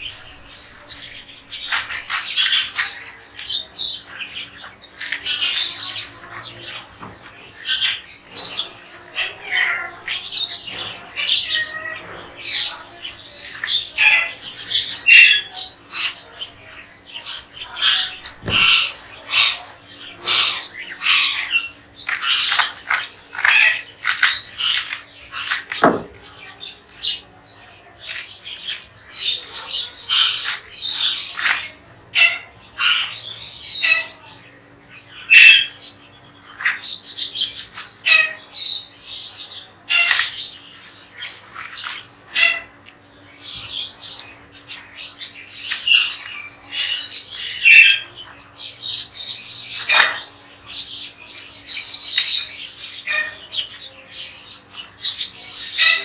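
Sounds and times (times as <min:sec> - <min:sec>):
parrots squawking: 0:00.0 - 0:56.0.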